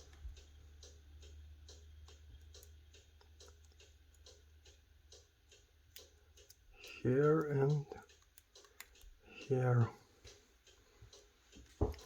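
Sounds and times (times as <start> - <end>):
faint evenly spaced ticks: 0.0 - 12.0.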